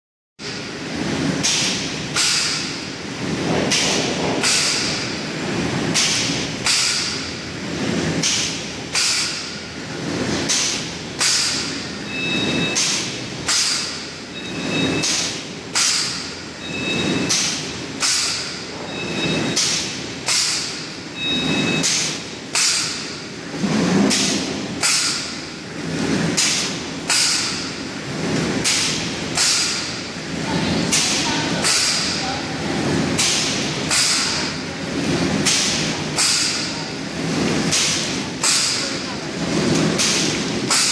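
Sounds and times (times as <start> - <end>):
machine clacking: 0.4 - 40.9
mechanical rumble: 0.4 - 40.9.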